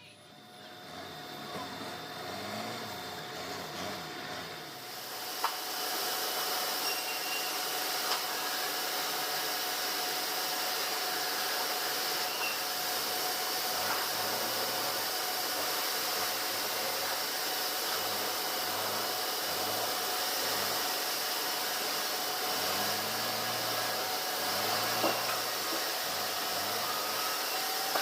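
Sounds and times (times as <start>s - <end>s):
machine hiss with faint whine: 0.0s - 28.0s.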